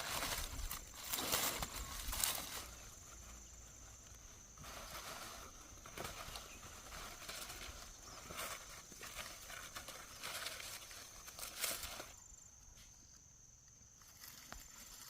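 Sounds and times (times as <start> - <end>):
footsteps: 0.0 - 12.2
dry corn leaves rustling: 0.0 - 12.9, 13.9 - 15.0.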